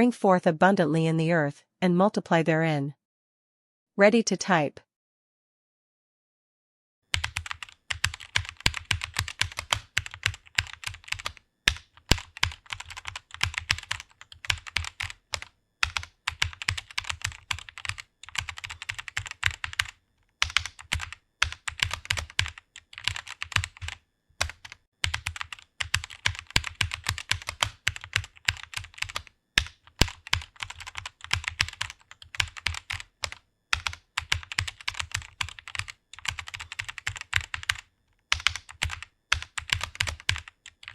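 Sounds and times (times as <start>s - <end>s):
fast typing on keyboard: 7.1s - 40.9s.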